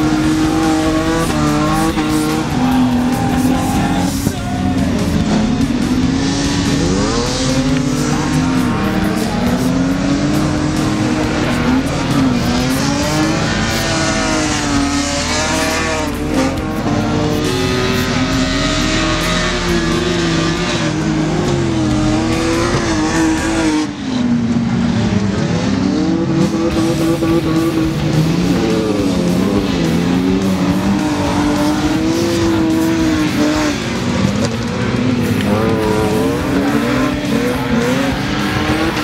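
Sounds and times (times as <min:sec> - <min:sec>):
stock car engines racing: 0:00.0 - 0:39.0.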